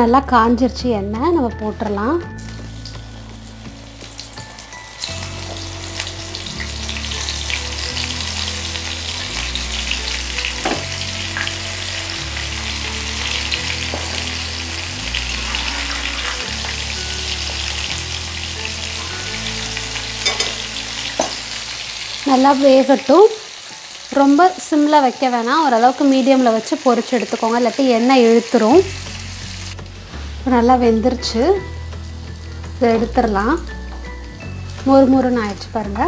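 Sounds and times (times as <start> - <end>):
soft background music: 0.0 - 36.0
food deep-frying in oil: 2.2 - 36.0.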